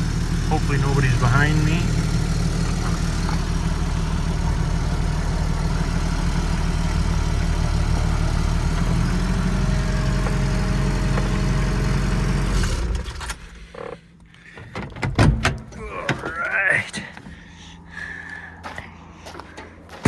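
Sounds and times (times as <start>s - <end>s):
car engine running: 0.0s - 14.9s, 15.6s - 20.0s.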